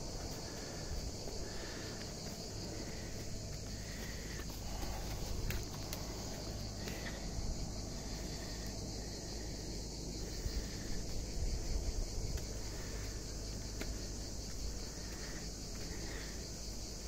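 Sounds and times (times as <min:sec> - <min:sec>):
insects chorus in trees: 0:00.0 - 0:17.0.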